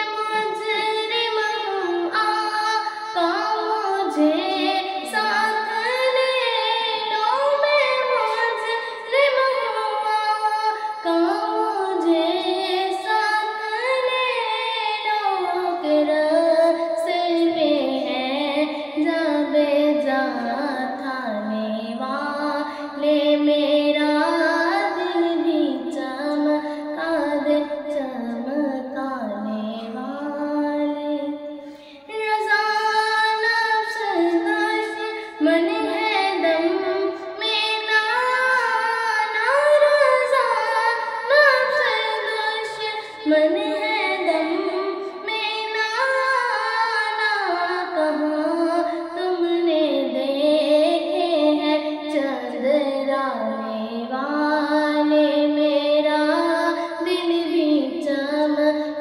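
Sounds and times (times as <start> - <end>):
girl singing: 0.0 - 59.0.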